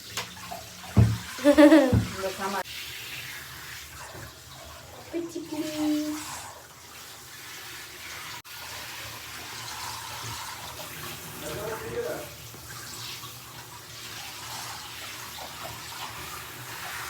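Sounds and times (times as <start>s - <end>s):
bathwater running and splashing: 0.0s - 17.0s.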